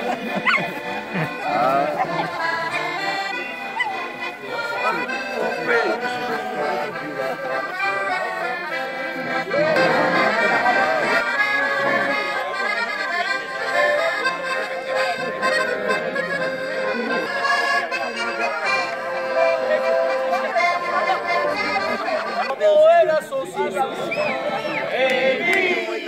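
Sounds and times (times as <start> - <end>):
button accordions playing: 0.0 - 26.0.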